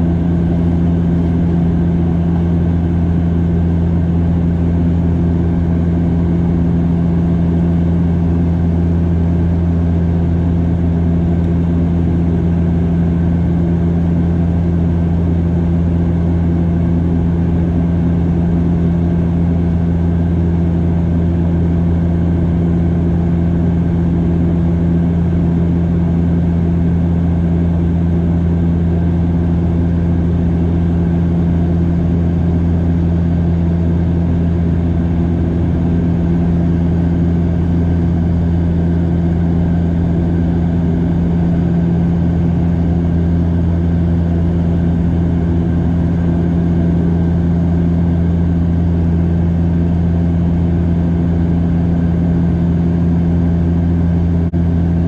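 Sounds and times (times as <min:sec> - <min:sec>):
propeller drone in aircraft cabin: 0:00.0 - 0:55.0.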